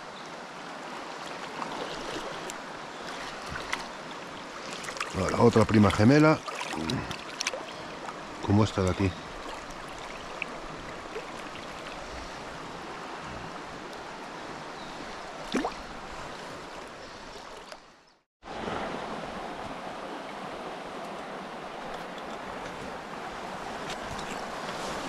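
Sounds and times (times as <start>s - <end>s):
river water rushing: 0.0s - 17.6s, 18.5s - 25.0s.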